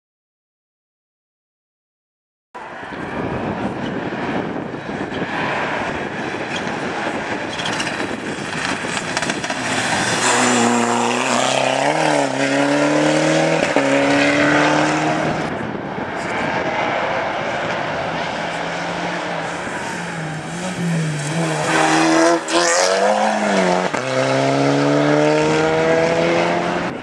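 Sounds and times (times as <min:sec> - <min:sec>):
rally car engine accelerating: 0:03.8 - 0:27.0.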